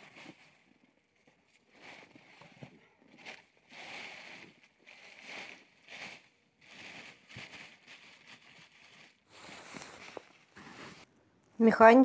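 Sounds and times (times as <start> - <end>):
plastic tarpaulin rustling: 0.0 - 11.1.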